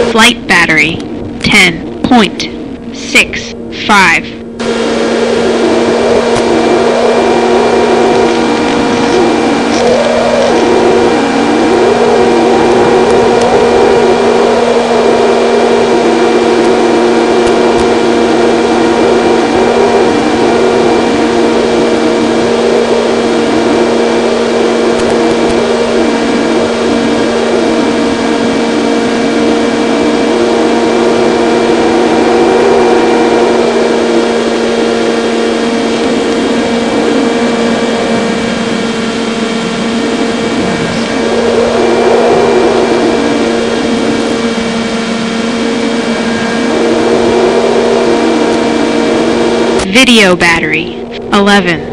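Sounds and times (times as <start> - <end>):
wind noise over airframe: 0.0 - 50.0
electric motor and propeller whine: 0.0 - 51.9.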